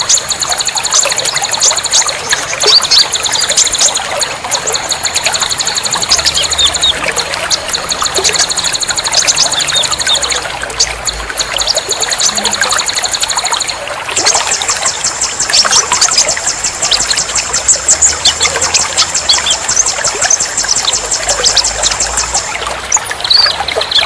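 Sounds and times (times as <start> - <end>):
songbirds chirping and trilling: 0.0 - 24.0
trickling water: 0.0 - 24.0
high ticking trill: 2.8 - 22.5.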